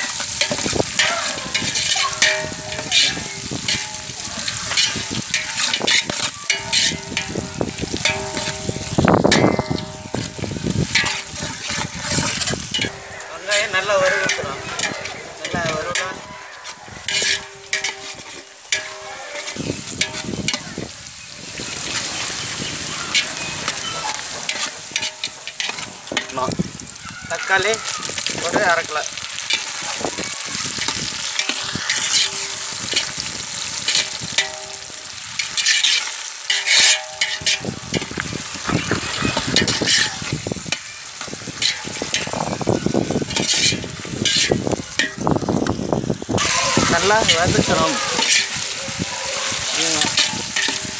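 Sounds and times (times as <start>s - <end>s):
metal ladle scraping pot: 0.0s - 26.9s, 28.1s - 50.9s
onions and tomatoes sizzling: 0.0s - 50.9s.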